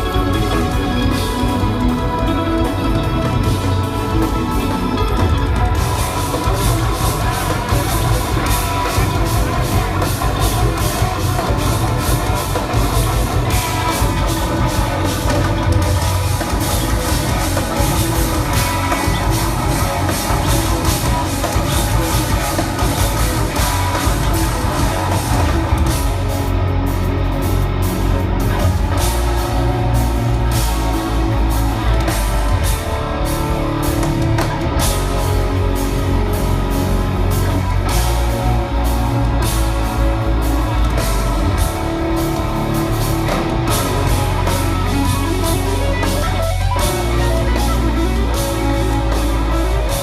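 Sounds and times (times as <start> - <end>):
busy drum kit: 0.0 - 50.0
distorted electric guitars: 0.0 - 50.0.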